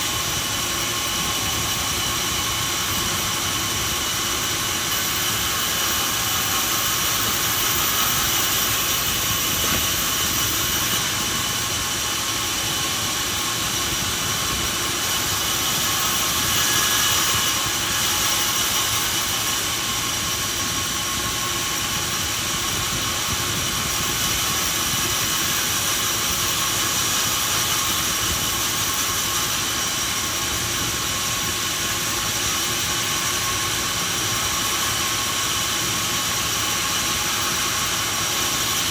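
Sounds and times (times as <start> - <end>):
high steady machine whine: 0.0 - 38.9
machinery hissing and humming: 0.0 - 38.9.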